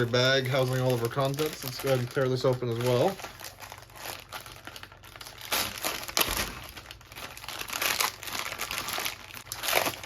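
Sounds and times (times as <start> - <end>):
plastic bag tearing and crinkling: 0.0 - 10.0.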